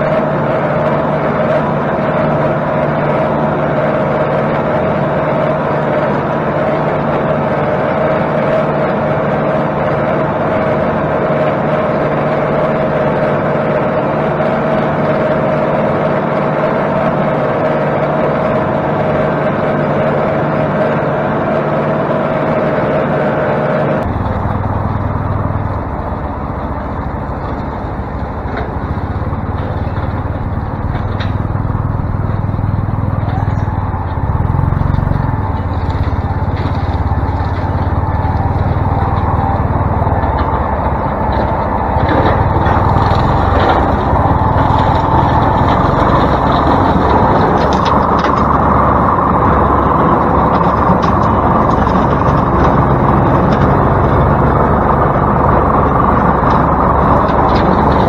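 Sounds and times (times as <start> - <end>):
distant tractor rumble: 0.0 - 58.0
tractor engine running: 0.0 - 58.0.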